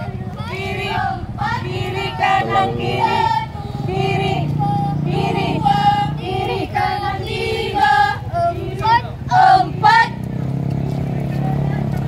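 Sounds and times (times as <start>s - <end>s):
women singing in unison: 0.0s - 10.2s.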